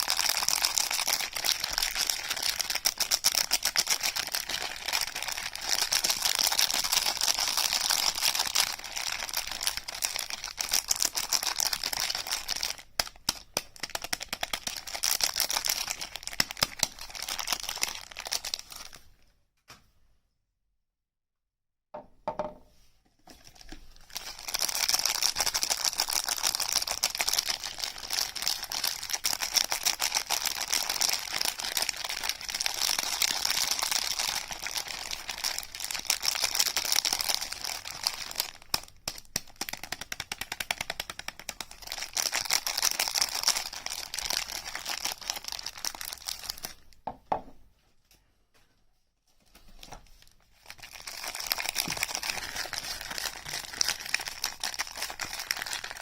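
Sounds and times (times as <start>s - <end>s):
packaging crinkling and rustling: 0.0s - 19.2s, 23.2s - 47.0s, 49.3s - 56.0s.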